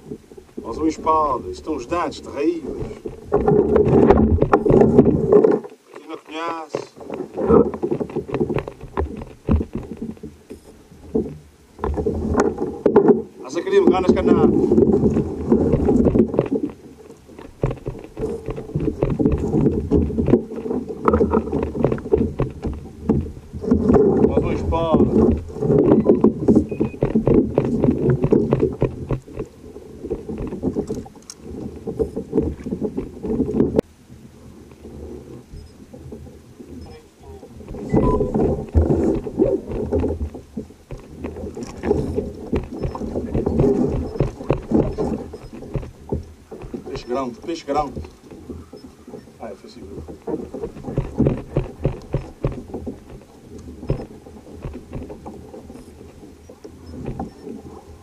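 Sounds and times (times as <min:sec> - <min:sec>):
wind rumbling on microphone: 0:00.0 - 0:05.8, 0:06.6 - 0:58.0
knocks and clicks from boat: 0:00.0 - 0:58.0
water sloshing against hull: 0:00.0 - 0:58.0.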